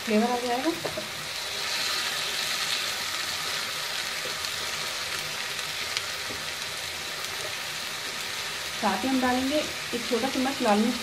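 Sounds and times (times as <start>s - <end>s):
masala sizzling in hot oil: 0.0s - 11.0s.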